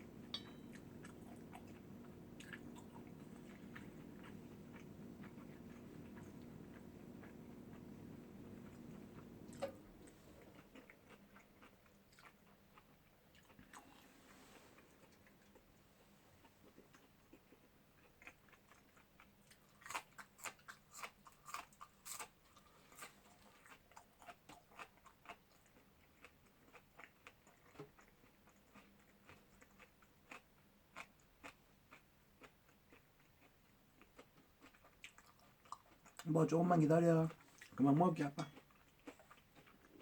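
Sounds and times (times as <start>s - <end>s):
person chewing crunchy food: 0.0s - 15.7s, 16.4s - 36.3s, 38.4s - 40.0s.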